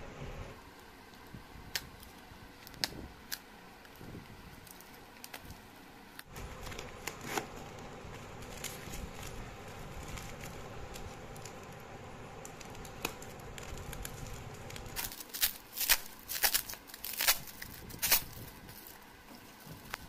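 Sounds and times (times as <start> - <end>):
plastic wrap rustling and crinkling: 0.6 - 20.0.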